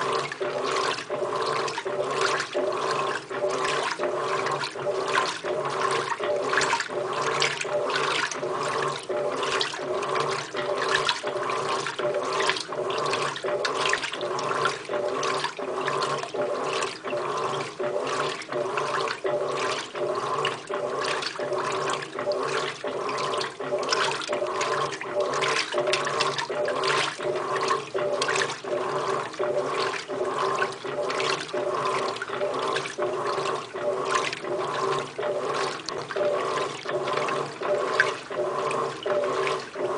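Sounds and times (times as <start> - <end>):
motor hum: 0.0 - 39.9
washing machine agitator swishing water: 0.0 - 39.9.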